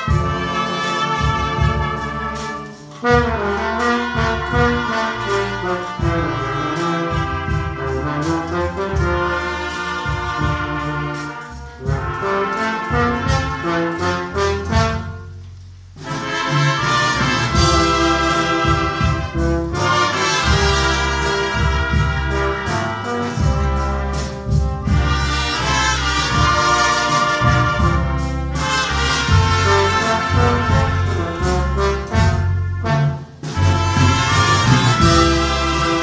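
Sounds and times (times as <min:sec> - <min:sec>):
brass band playing: 0:00.0 - 0:36.0.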